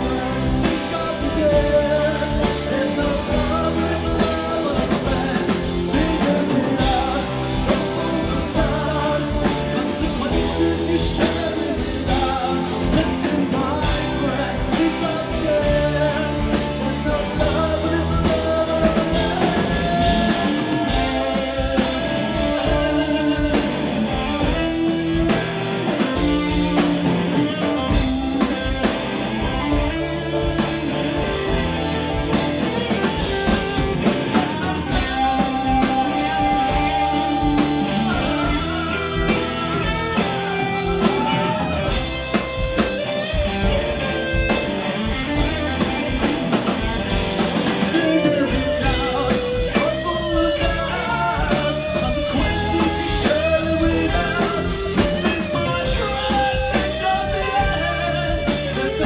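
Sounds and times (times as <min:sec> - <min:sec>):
bass guitar: 0:00.0 - 0:59.0
drum kit: 0:00.0 - 0:59.0
guitar melody: 0:00.0 - 0:59.0
rock band playing: 0:00.0 - 0:59.0.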